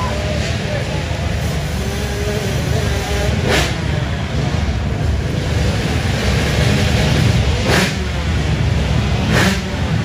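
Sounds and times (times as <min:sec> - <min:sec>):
motocross bike engine: 0:00.0 - 0:10.0.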